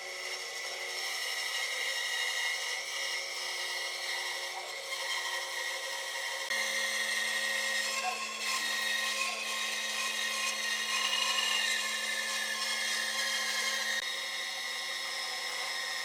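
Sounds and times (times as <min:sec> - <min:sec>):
power tool whining on wood: 0:00.0 - 0:16.0.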